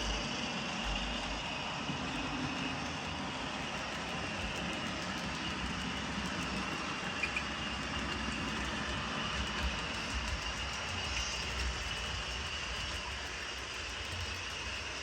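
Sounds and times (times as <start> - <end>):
model train motor whine: 0.0 - 15.0
wheels rumbling on rails: 0.0 - 15.0.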